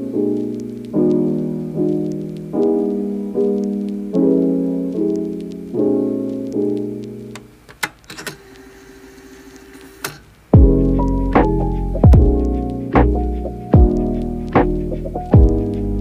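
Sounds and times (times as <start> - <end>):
lo-fi piano music: 0.0 - 16.0.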